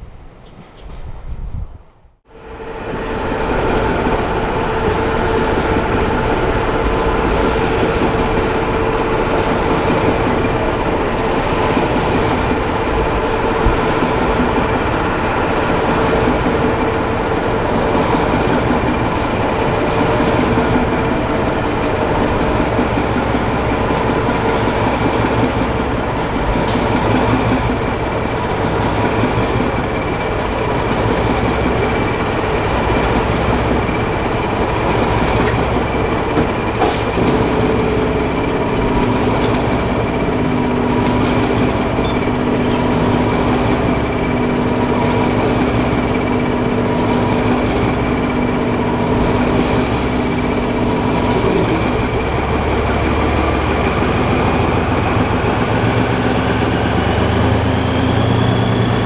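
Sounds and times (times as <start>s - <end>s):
diesel locomotive running: 0.0s - 59.0s.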